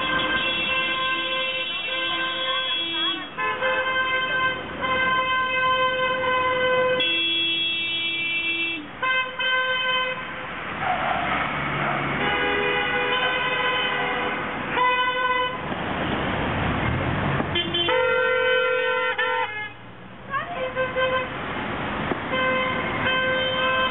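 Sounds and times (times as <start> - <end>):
car horns honking: 0.0 - 15.7, 17.4 - 21.5, 22.1 - 23.9
passing traffic: 0.0 - 23.9.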